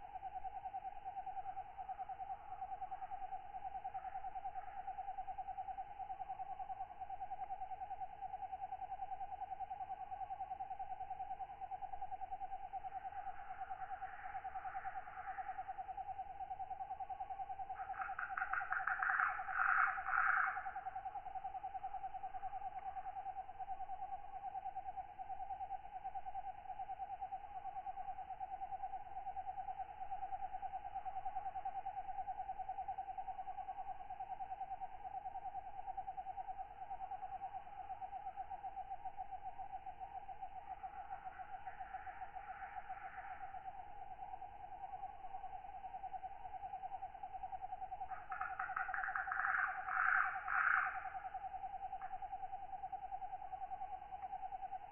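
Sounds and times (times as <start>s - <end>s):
pulsing insect trill: 0.0s - 54.9s.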